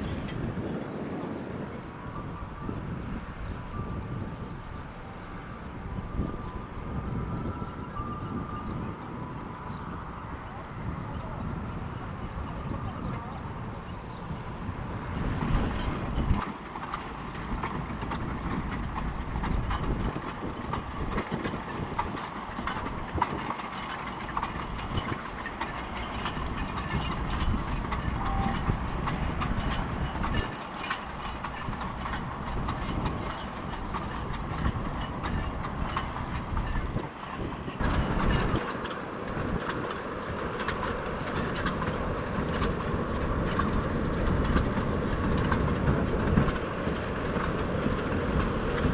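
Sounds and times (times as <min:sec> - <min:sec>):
train wheels clattering on rails: 0:00.0 - 0:48.9.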